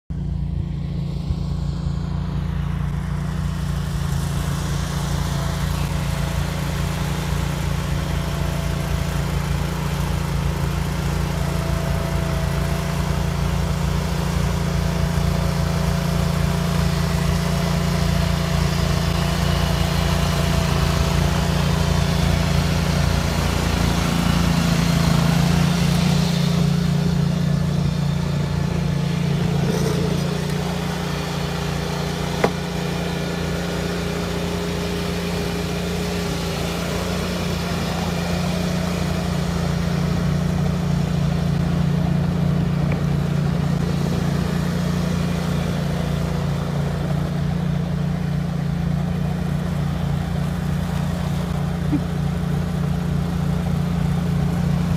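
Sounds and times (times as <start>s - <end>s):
garden tractor engine running: 0.1s - 54.9s
snow thrower throwing snow: 0.2s - 54.9s.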